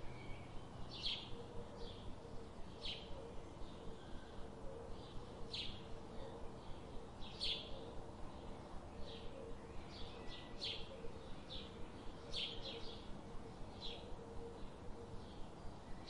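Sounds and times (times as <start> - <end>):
low outdoor hum: 0.0 - 16.0
songbird chirping: 0.0 - 16.0.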